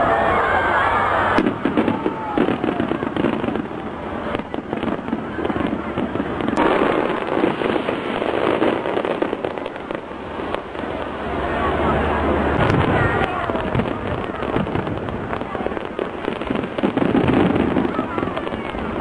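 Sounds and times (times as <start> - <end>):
crowd voices: 0.0 - 19.0
fireworks crackling: 0.0 - 19.0.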